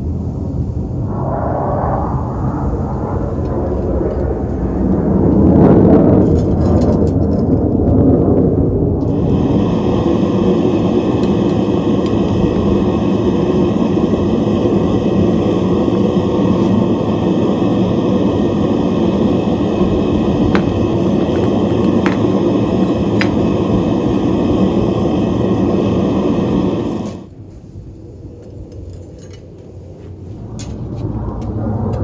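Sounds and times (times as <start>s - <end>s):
furnace burner roaring: 0.0s - 32.0s.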